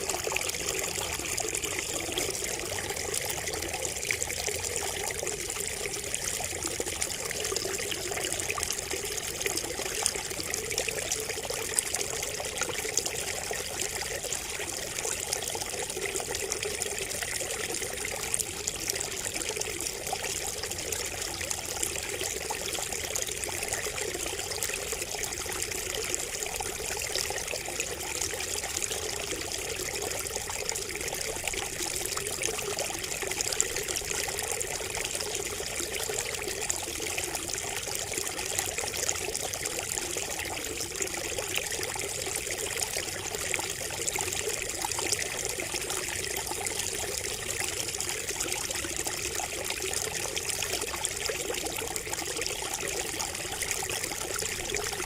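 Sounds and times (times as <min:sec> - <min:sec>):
water trickling from bamboo spout: 0:00.0 - 0:55.0.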